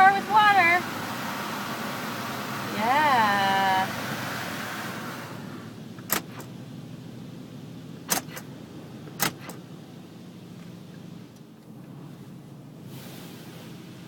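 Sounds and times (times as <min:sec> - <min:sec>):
car wash low hum: 0:00.0 - 0:14.0.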